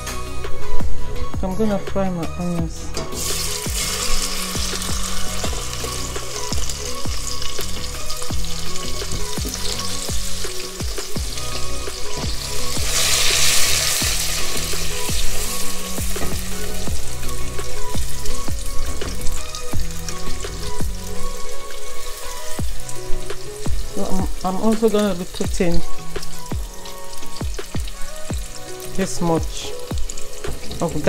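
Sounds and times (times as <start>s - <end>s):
background music with steady beat: 0.0s - 31.0s
onions sizzling in oil: 3.1s - 31.0s.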